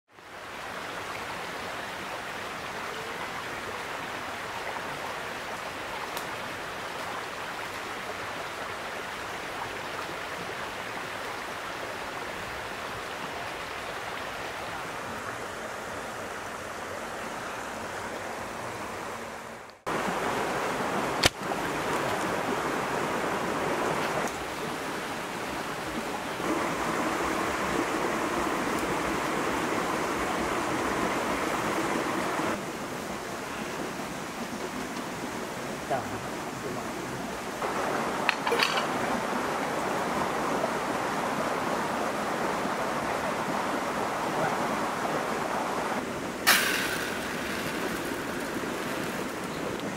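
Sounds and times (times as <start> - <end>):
stream running over rocks: 0.1 - 49.9.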